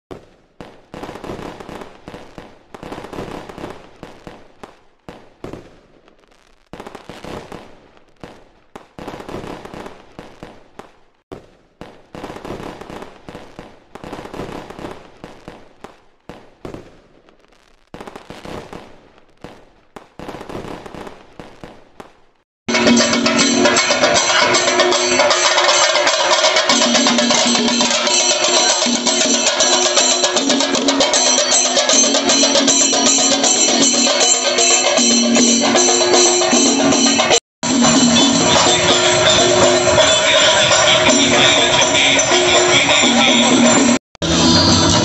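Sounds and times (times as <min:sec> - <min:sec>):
fireworks bursting: 0:00.1 - 0:45.0.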